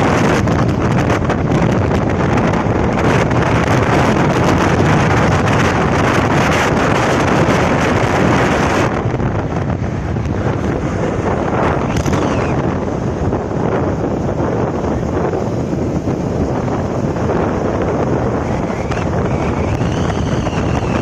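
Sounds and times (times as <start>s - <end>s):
strong wind rushing: 0.0s - 21.0s.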